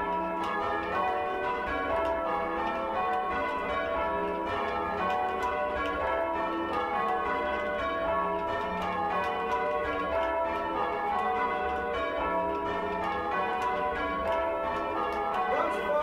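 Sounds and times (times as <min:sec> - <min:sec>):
church bells ringing changes: 0:00.0 - 0:16.0.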